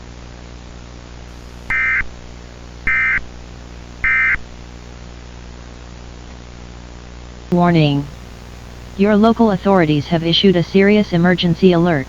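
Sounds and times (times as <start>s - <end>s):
static hiss and hum: 0.0s - 12.0s.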